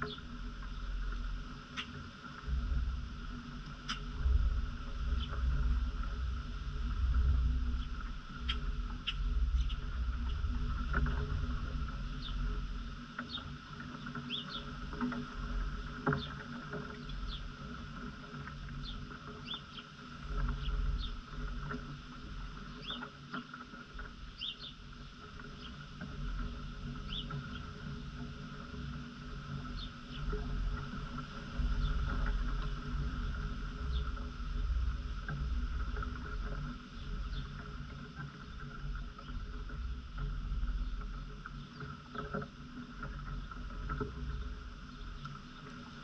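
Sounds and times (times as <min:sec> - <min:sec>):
low uneven rumble: 0:00.0 - 0:46.0.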